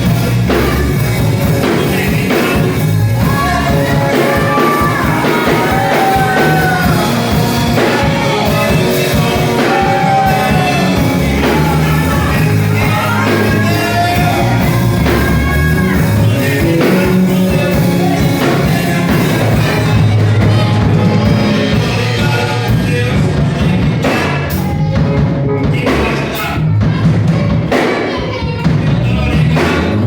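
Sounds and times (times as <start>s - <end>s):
band with bass and drums: 0.0s - 30.0s
person singing gospel song: 0.0s - 30.0s.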